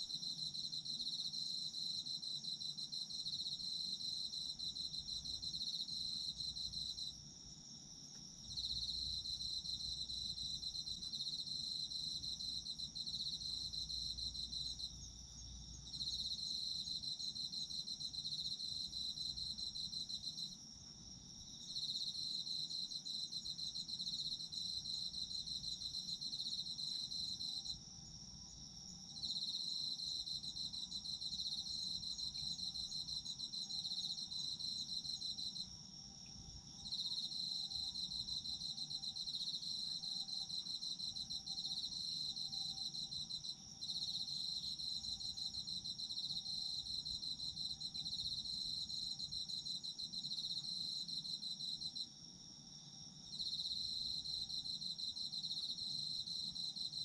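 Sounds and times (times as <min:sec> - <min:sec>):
insects high steady ring: 0:00.0 - 0:57.0.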